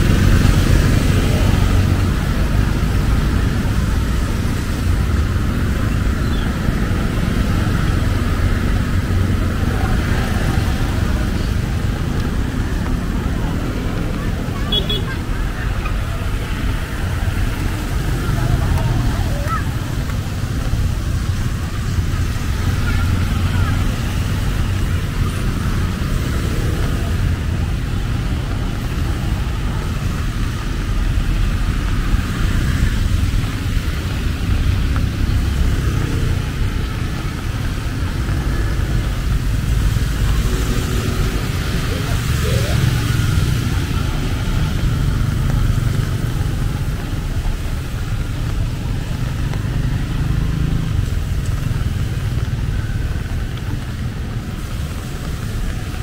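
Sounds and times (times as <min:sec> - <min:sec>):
traffic on a wet road: 0:00.0 - 0:56.0.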